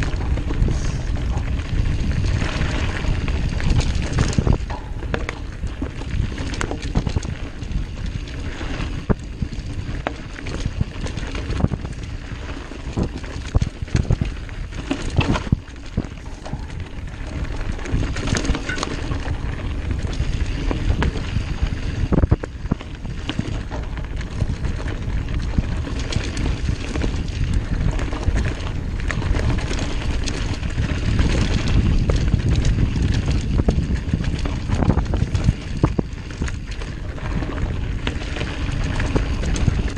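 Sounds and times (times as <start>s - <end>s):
bike knocking and rattling: 0.0s - 39.9s
bike tyres on dirt trail: 0.0s - 39.9s
wind on microphone: 0.0s - 39.9s.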